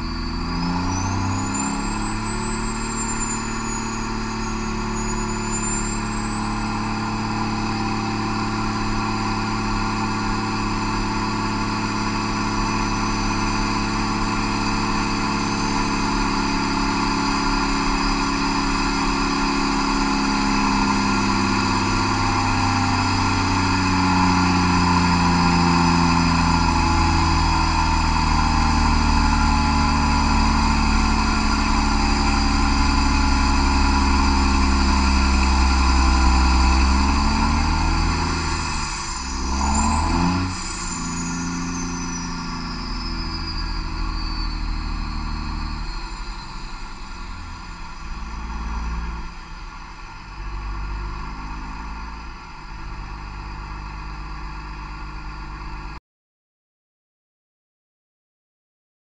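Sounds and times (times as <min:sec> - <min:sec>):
diesel engine at full power: 0:00.0 - 0:56.0.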